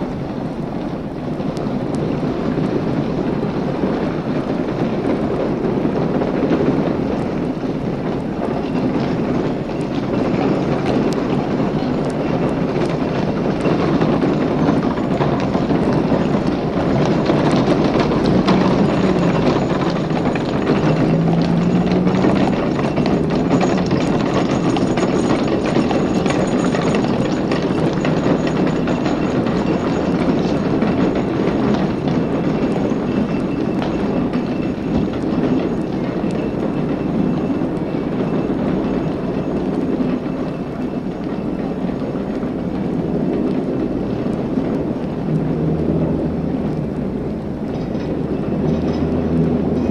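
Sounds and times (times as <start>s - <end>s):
traffic rumble: 0.0s - 49.9s
tram wheels clattering on rails: 0.0s - 49.9s.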